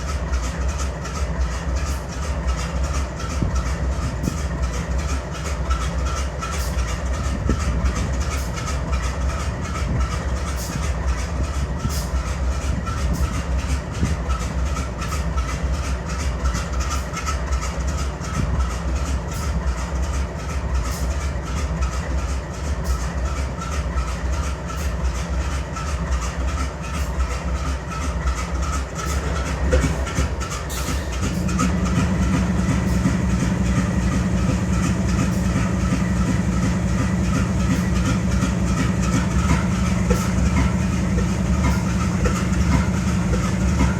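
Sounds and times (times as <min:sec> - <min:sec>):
diesel locomotive engine idling: 0:00.0 - 0:43.9.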